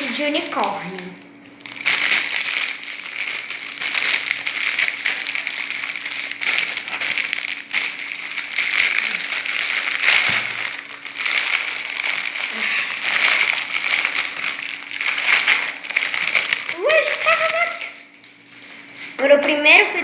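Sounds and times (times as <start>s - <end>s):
plastic packaging crinkling: 0.0s - 19.3s.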